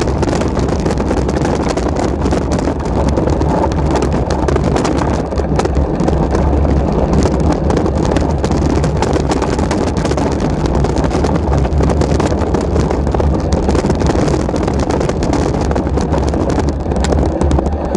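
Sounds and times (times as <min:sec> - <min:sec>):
mountain bike rattling on trail: 0:00.0 - 0:17.9
wind buffeting the microphone: 0:00.0 - 0:17.9.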